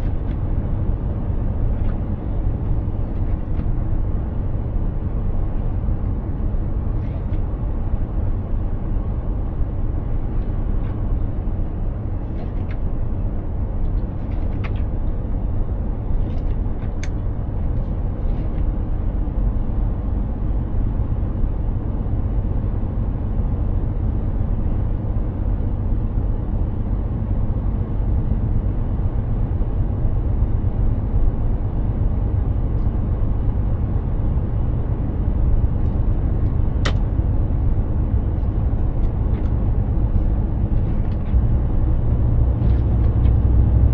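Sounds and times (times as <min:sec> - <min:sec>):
truck driving low rumble: 0:00.0 - 0:43.9.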